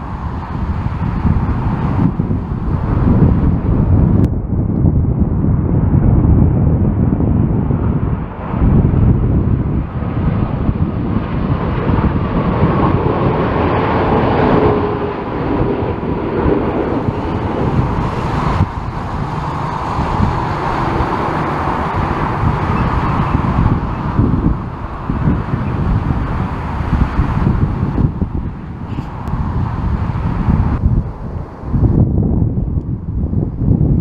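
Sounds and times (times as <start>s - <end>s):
jet engines rumbling and whining: 0.0s - 34.0s
wind buffeting microphone: 0.0s - 34.0s.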